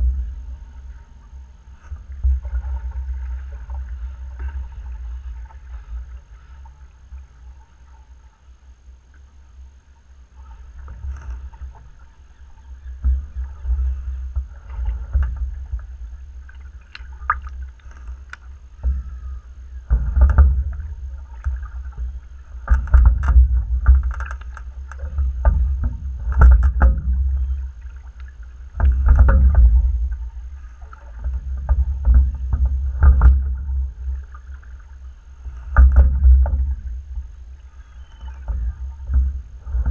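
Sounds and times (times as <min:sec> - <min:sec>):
oars splashing: 0:00.0 - 0:08.4, 0:10.3 - 0:39.9
low rumble through boat hull: 0:00.0 - 0:39.9.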